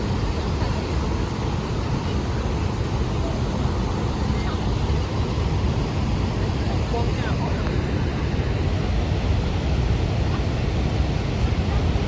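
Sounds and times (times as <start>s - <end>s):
waterfall rushing rumble: 0.0s - 12.0s.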